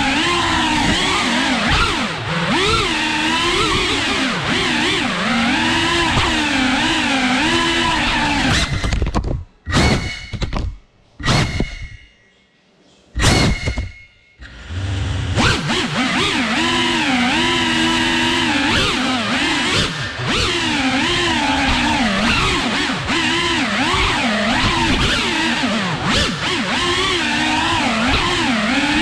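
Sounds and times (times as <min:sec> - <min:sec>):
drone motors whining: 0:00.0 - 0:09.1, 0:13.2 - 0:29.0.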